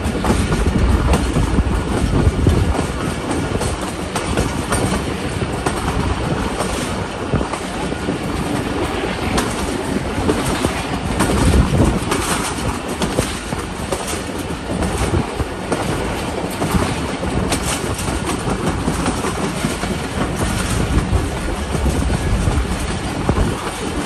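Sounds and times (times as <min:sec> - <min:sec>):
train wheels rumbling on rails: 0:00.0 - 0:24.0
wheels clicking over rail joints: 0:00.0 - 0:24.0.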